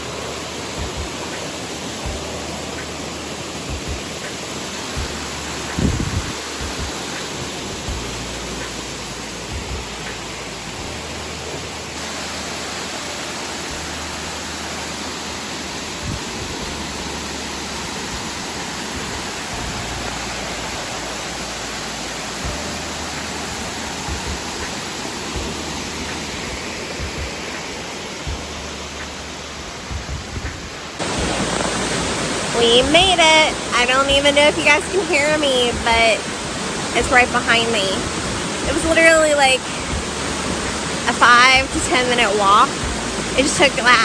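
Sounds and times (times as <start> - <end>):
low bumps: 0.0 - 12.6, 13.6 - 44.0
waterfall roaring: 0.0 - 44.0.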